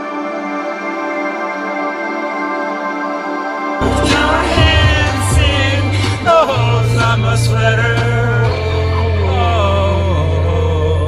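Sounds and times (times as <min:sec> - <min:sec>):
ambient music of held chords: 0:00.0 - 0:11.0.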